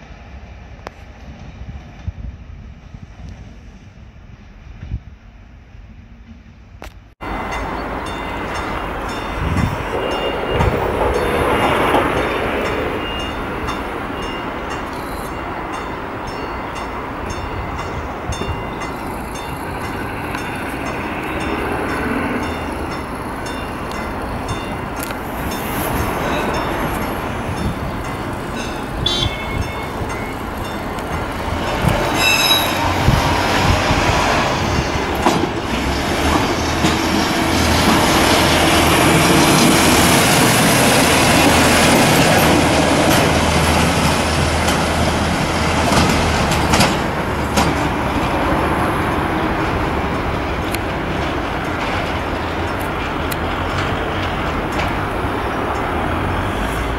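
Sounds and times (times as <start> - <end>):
wheels on rails: 7.3 - 56.9.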